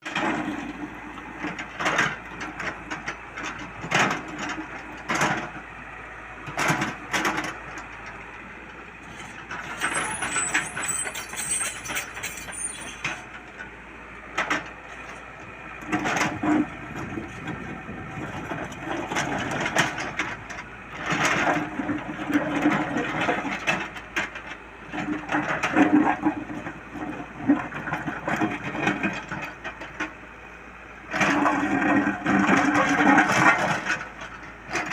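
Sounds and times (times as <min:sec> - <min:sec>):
excavator engine humming: 0:00.0 - 0:34.9.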